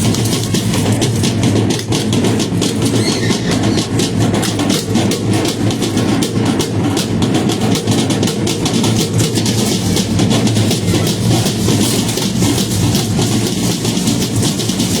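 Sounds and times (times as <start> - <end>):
rattles clattering: 0.0 - 5.8, 7.9 - 15.0
drum beating fast rhythm: 0.0 - 15.0.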